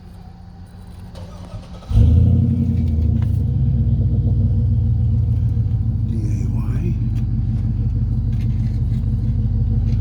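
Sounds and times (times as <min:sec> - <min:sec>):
engine starting and idling: 0:01.1 - 0:10.0.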